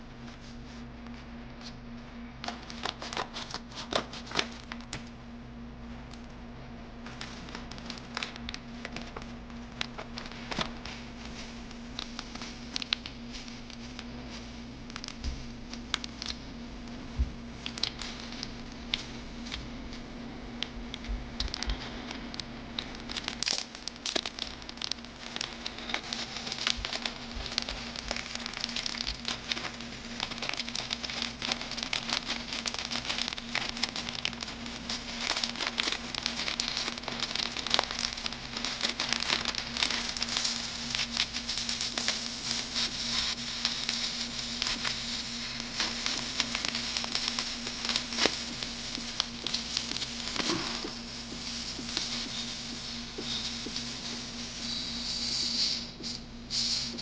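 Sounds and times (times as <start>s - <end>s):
card pack wrappers crinkling: 2.4s - 5.0s, 7.2s - 16.5s, 17.6s - 20.1s, 20.9s - 55.3s.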